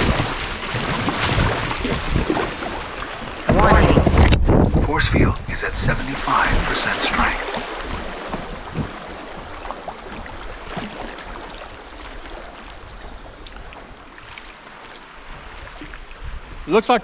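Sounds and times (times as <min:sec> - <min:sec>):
river water rushing around hull: 0:00.0 - 0:17.0.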